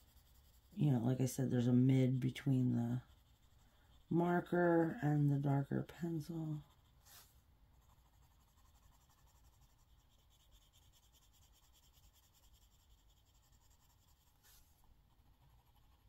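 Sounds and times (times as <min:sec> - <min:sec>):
colouring tool scratching paper: 0:00.0 - 0:16.0.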